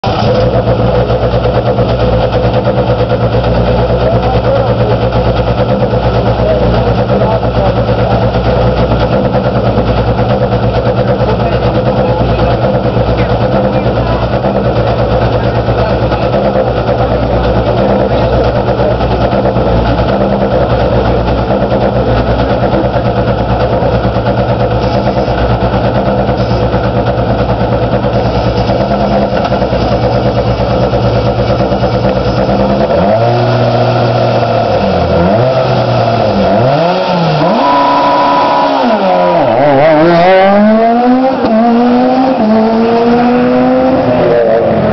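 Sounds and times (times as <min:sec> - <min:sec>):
car engine idling: 0:00.0 - 0:44.9
car engine revving: 0:00.0 - 0:44.9.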